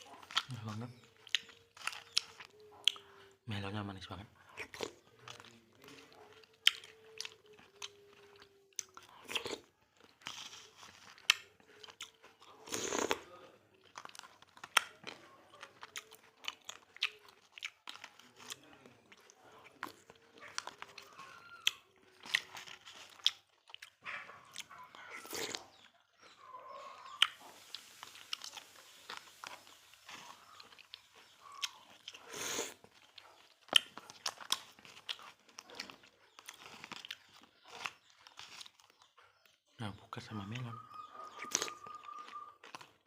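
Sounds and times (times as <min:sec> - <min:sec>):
wet chewing and smacking: 0:00.0 - 0:43.0.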